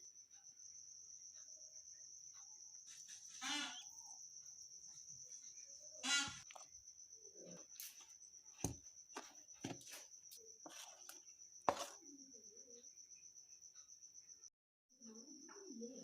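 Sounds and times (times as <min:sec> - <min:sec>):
cricket chirping trill: 0:00.0 - 0:16.0.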